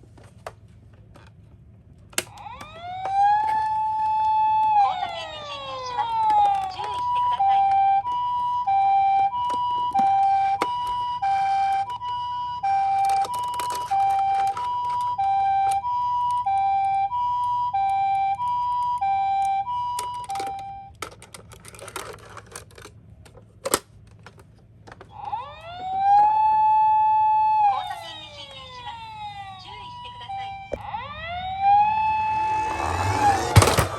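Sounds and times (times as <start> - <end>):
siren wail: 2.2 - 21.0, 25.1 - 33.9
two-tone toy siren: 2.2 - 22.4, 25.1 - 33.9.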